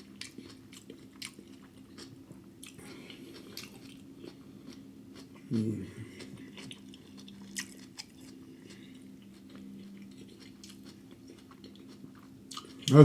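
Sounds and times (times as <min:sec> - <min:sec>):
close chewing of food: 0:00.0 - 0:13.0
faint steady hum: 0:00.0 - 0:13.0.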